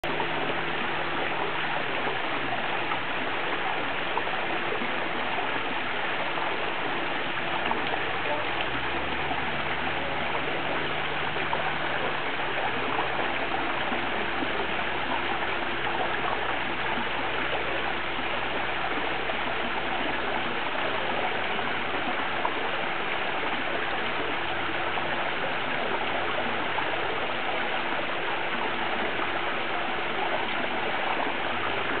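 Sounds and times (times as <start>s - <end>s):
waterfall pouring into pool: 0.0s - 32.0s.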